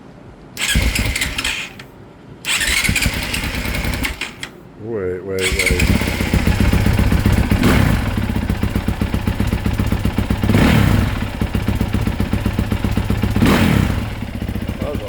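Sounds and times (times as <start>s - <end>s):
motorcycle engine running: 0.6s - 1.8s, 2.5s - 4.5s, 5.4s - 15.0s.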